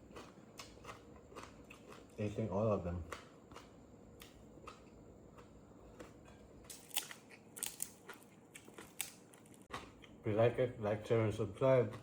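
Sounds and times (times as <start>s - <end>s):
person eating crunchy food: 0.0s - 10.4s.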